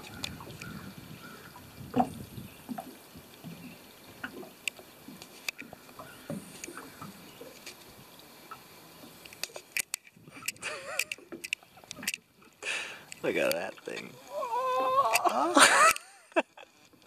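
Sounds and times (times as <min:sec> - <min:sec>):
small waves lapping against boat hull: 0:00.0 - 0:17.0.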